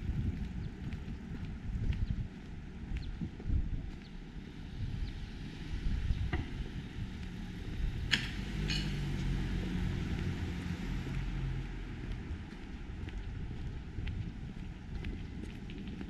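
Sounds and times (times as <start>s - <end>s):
engine hum: 0.0s - 16.0s
low vehicle rumble: 0.0s - 16.0s.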